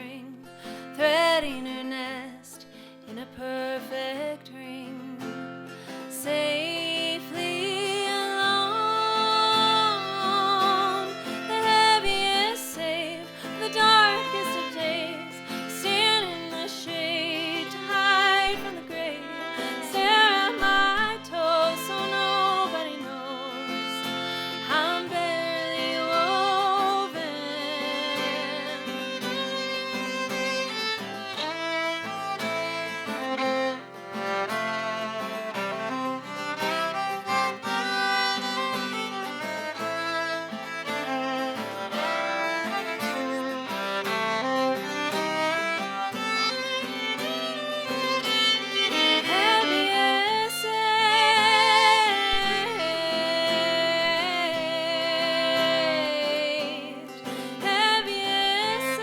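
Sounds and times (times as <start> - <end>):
acoustic guitar accompaniment: 0.0 - 59.0
fiddle melody: 0.0 - 59.0.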